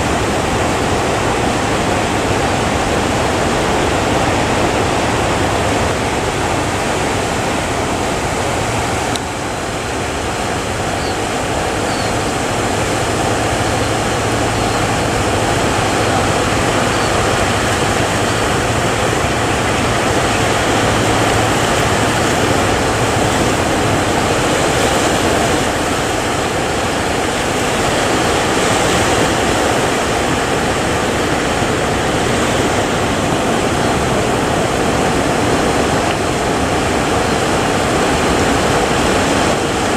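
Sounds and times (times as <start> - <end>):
heavy surf: 0.0 - 39.9.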